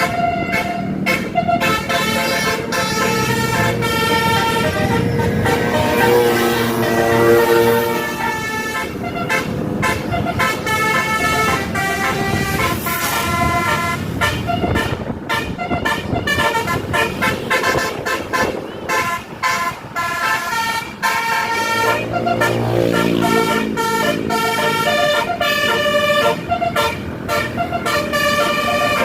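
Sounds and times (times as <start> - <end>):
bus horn playing a melody: 0.0 - 29.0.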